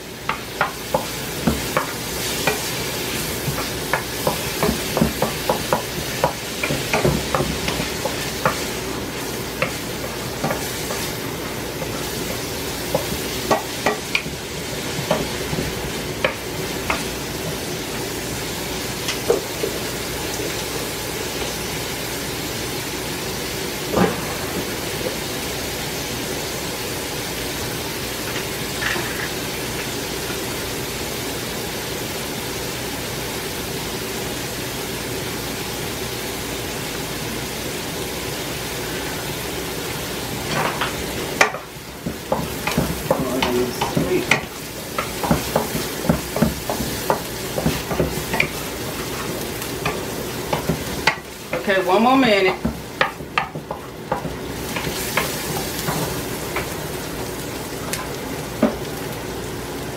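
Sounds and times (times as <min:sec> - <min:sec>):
vegetables sizzling in a pan: 0:00.0 - 0:59.9.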